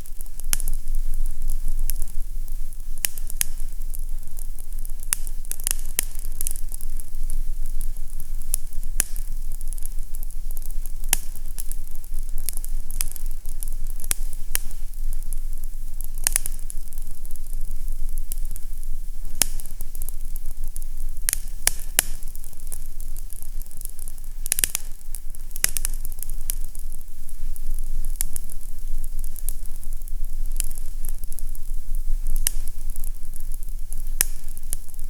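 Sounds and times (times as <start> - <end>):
fireplace crackling and popping: 0.0 - 35.0
steady hiss: 0.0 - 35.0.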